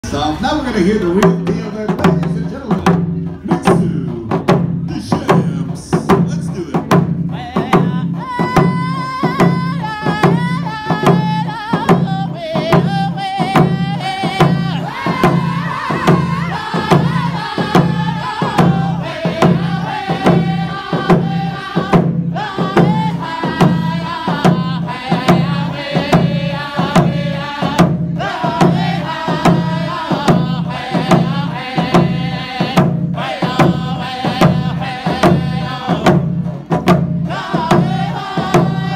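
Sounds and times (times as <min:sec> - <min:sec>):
hand drums beating: 0:01.2 - 0:38.9
group singing: 0:07.2 - 0:38.9.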